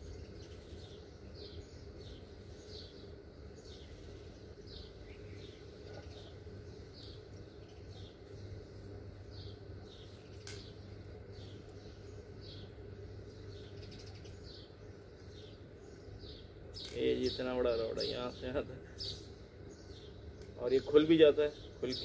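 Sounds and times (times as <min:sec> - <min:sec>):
bird chirping: 0:00.0 - 0:22.0
low steady hum: 0:00.0 - 0:22.0.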